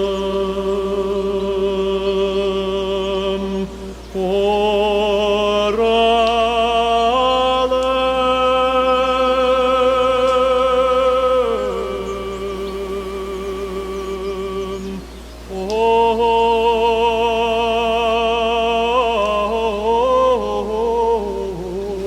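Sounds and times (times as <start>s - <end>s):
person singing with vibrato: 0.0s - 22.0s.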